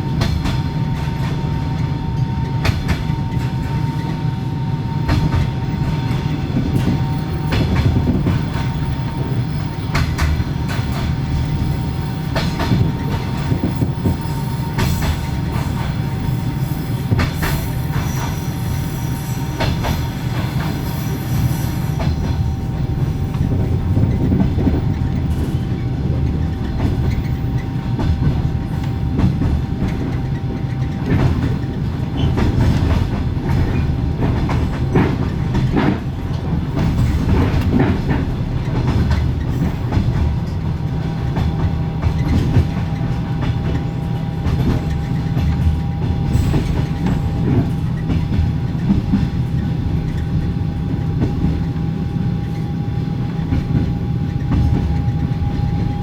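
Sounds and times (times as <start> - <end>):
train carriage rumble: 0.0 - 56.0.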